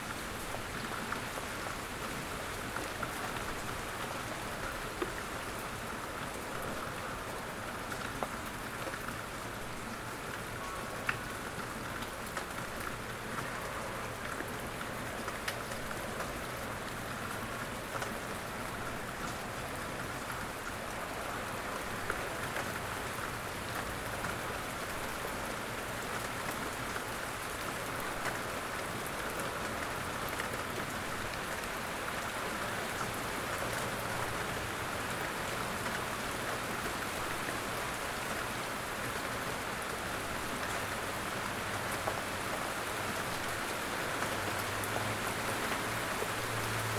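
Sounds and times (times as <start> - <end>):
light rain tapping: 0.0 - 46.9.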